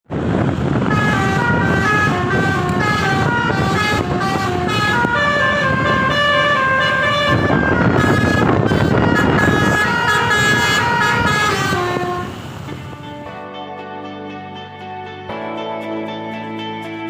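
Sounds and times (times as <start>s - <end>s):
engine and road rumble: 0.0s - 17.0s
multi-tone bus horn melody: 0.2s - 16.6s.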